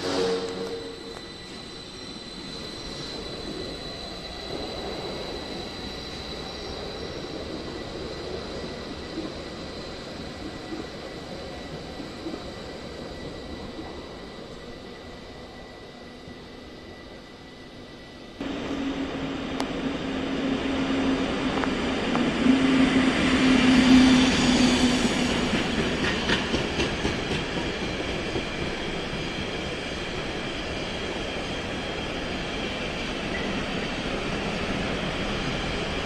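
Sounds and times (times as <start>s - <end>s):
freight train passing: 0.0s - 36.0s.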